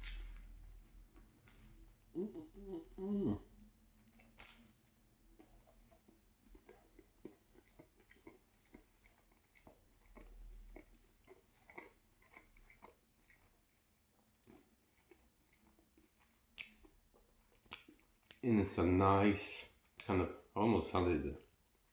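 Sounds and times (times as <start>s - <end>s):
faint chewing: 0.0s - 18.5s.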